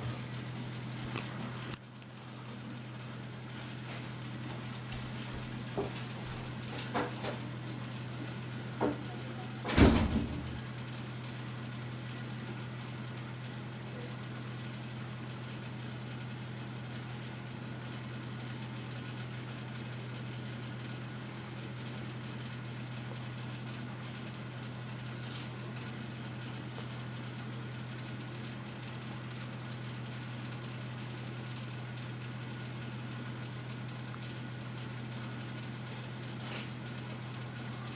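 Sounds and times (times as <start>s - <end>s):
appliance humming: 0.0s - 37.9s.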